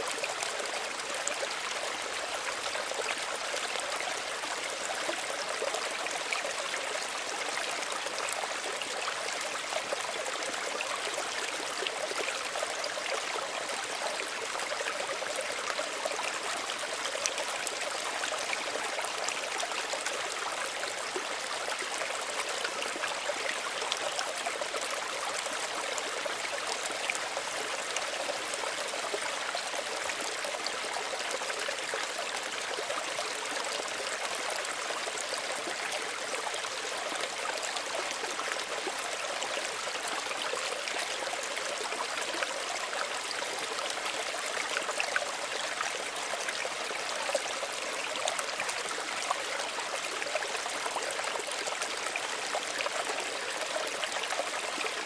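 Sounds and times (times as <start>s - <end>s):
stream babbling over stones: 0.0s - 55.0s.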